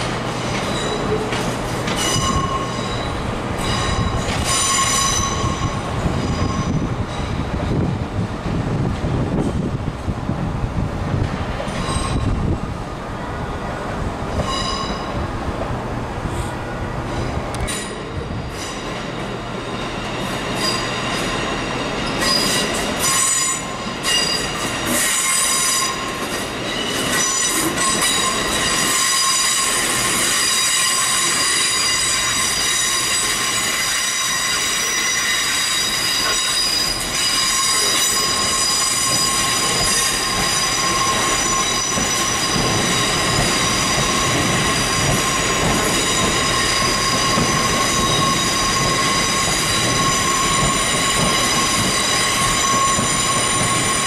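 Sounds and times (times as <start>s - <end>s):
train wheels squealing: 0.0s - 7.9s, 11.6s - 12.6s, 14.3s - 15.2s, 17.1s - 54.0s
wheels clicking on rail joints: 0.0s - 8.0s, 17.1s - 54.0s.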